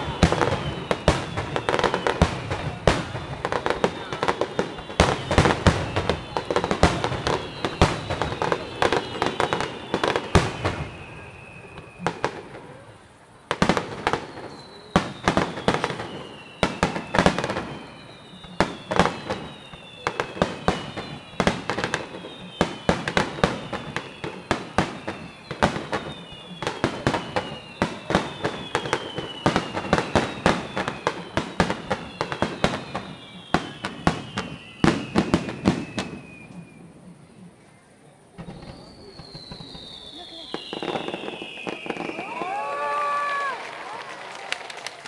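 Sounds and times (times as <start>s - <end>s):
fireworks bursting with bangs: 0.0s - 37.6s, 38.2s - 44.5s
fireworks whistles falling in pitch: 0.0s - 45.0s.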